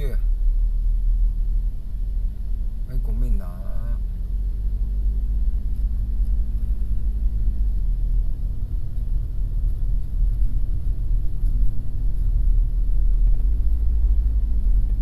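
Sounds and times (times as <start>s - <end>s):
car engine from inside cabin: 0.0s - 15.0s
road rumble: 0.0s - 15.0s.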